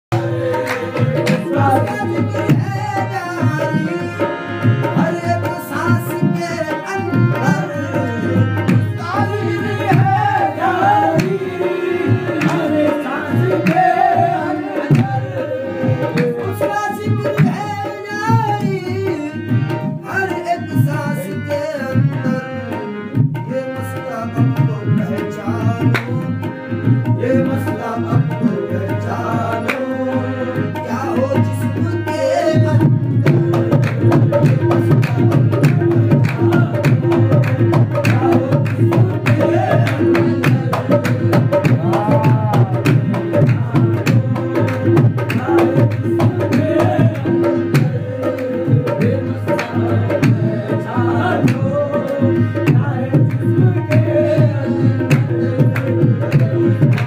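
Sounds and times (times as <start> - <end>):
harmonium melody: 0.1 - 57.0
tabla drumming: 0.1 - 57.0.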